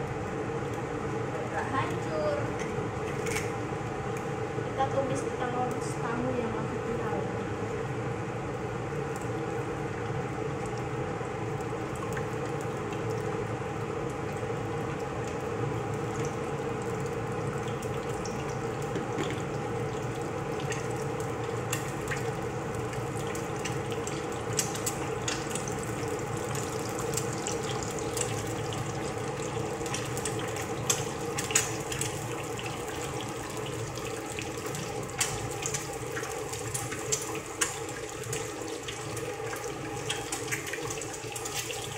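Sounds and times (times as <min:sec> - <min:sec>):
eggs sizzling in oil: 0:00.0 - 0:41.9.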